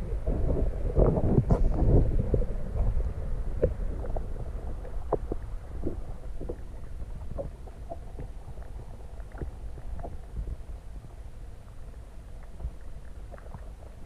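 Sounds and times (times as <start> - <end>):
underwater rumble of moving water: 0.0 - 14.0.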